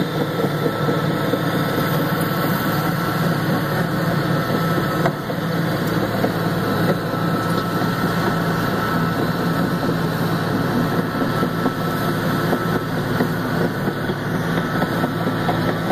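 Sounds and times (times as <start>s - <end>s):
distant bulldozer engine drone: 0.0s - 15.9s.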